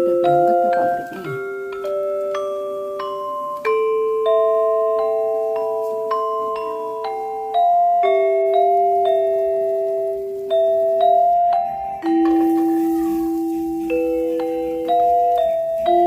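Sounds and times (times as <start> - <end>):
mallet instrument melody: 0.0 - 16.0.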